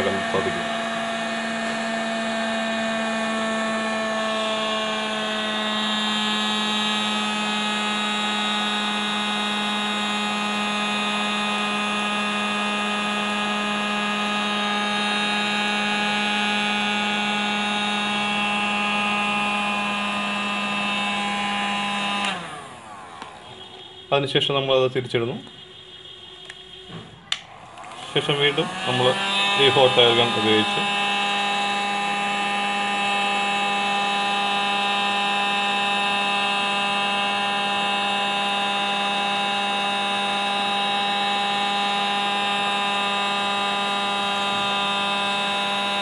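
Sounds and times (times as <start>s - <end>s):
hot air gun whining: 0.0s - 24.8s, 25.4s - 46.0s.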